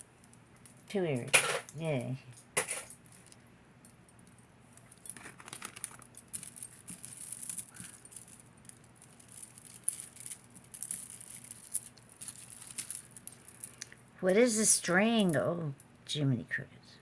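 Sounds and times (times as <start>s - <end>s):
jewelry clinking and rattling: 0.2s - 15.9s.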